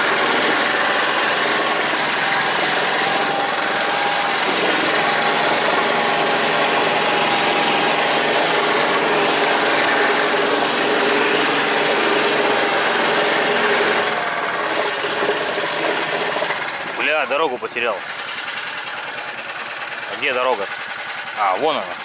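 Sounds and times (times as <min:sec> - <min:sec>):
vehicle engine running under load: 0:00.0 - 0:22.0.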